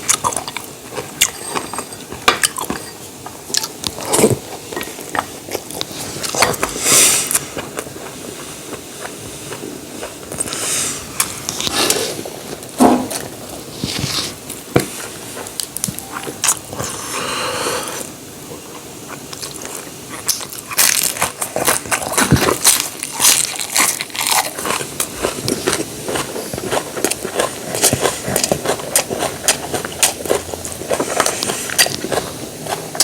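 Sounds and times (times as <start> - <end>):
people chewing and crunching: 0.0 - 33.0.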